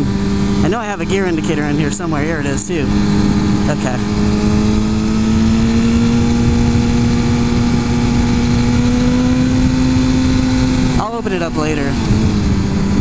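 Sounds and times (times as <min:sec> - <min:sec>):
motorcycle engine under throttle: 0:00.0 - 0:13.0
wind noise: 0:01.2 - 0:13.0.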